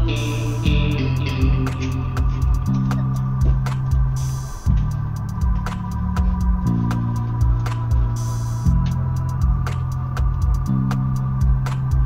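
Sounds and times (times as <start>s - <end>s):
held bass line: 0.0s - 12.0s
steady drum beat: 0.0s - 12.0s.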